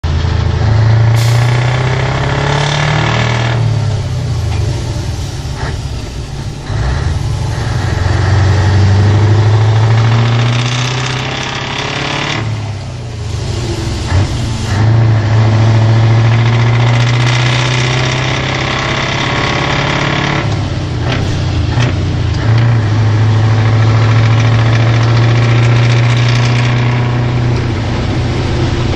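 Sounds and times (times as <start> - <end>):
diesel truck engine revving: 0.0 - 28.9
exhaust cracks: 0.0 - 28.9.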